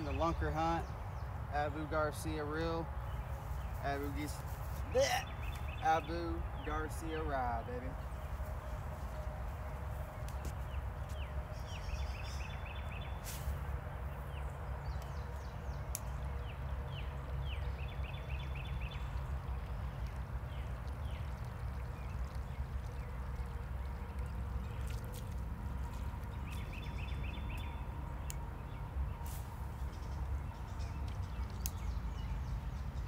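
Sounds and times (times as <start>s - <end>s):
birds chirping and trilling: 0.0s - 33.0s
steady low rumble: 0.0s - 33.0s.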